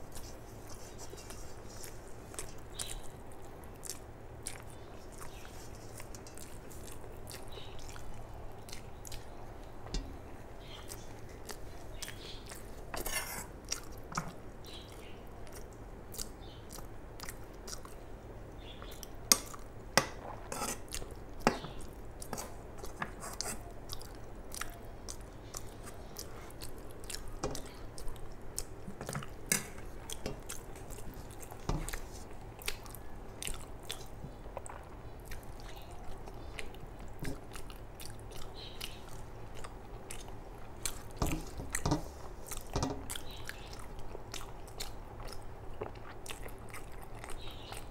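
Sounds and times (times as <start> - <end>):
chewing and wet mouth sounds: 0.0 - 47.9.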